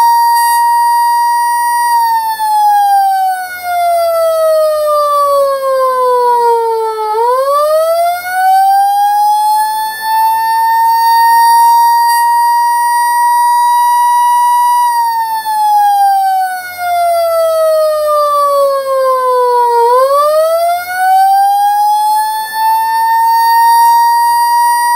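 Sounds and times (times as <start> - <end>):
siren winding up and down: 0.0 - 24.9.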